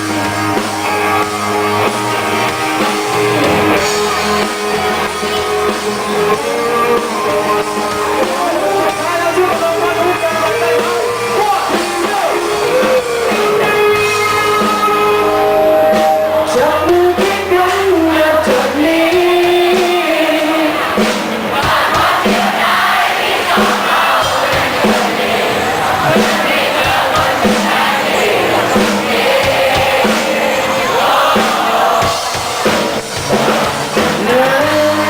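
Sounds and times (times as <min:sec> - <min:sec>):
crowd shouting along: 0:00.0 - 0:35.0
rock band playing: 0:00.0 - 0:35.0
lead vocalist singing: 0:02.8 - 0:35.0.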